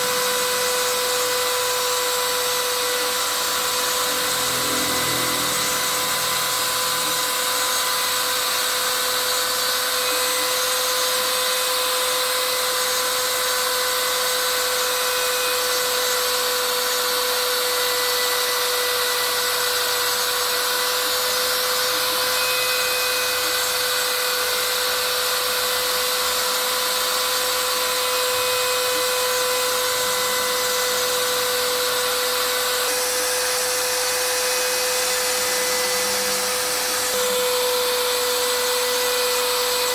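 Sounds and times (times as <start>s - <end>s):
spindle motor whine: 0.0s - 39.9s.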